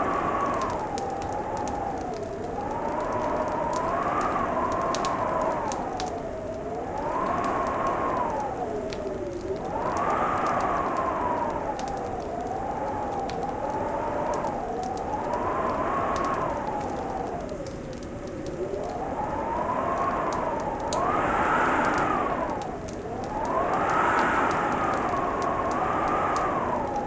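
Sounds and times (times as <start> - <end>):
fireplace fire crackling: 0.0 - 27.0
wind howling: 0.0 - 27.0.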